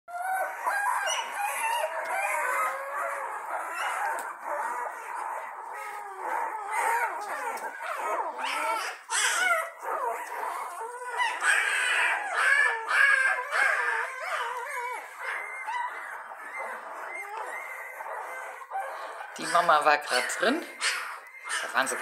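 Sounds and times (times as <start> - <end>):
puppies squealing and whining: 0.1 - 22.0.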